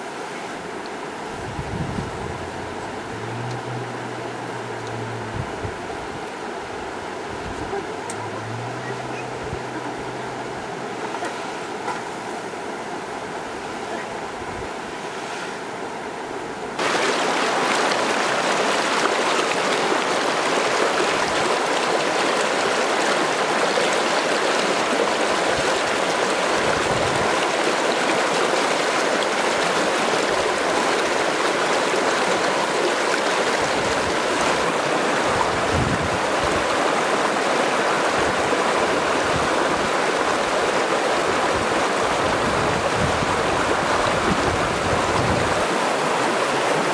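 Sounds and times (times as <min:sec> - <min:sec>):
stream water flowing: 0:00.0 - 0:46.9.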